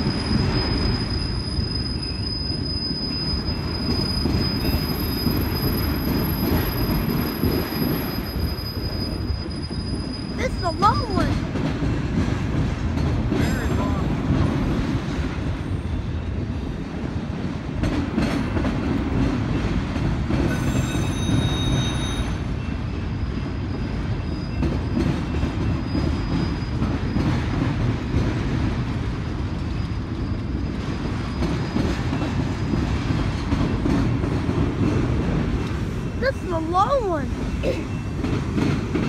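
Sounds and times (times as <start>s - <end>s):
train wheel squeal: 0.0s - 11.5s, 15.4s - 17.1s, 17.8s - 39.0s
freight train rumbling past: 0.0s - 39.0s.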